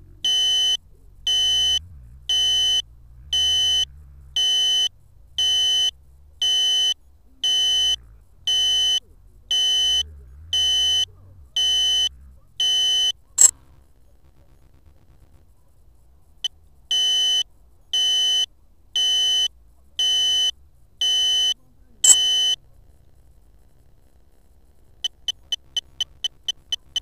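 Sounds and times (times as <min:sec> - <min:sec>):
electronic beeping: 0:00.1 - 0:15.5, 0:16.2 - 0:27.0.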